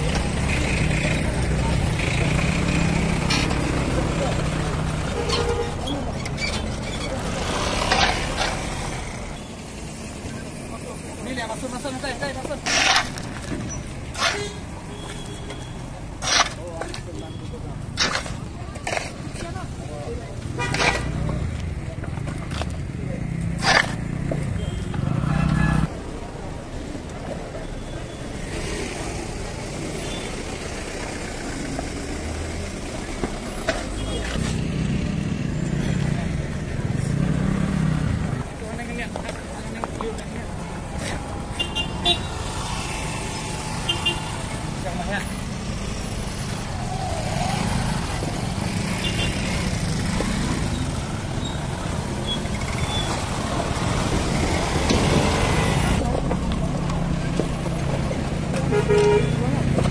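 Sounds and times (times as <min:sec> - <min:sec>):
street traffic: 0:00.0 - 0:59.9
vehicle engines passing: 0:00.0 - 0:59.9.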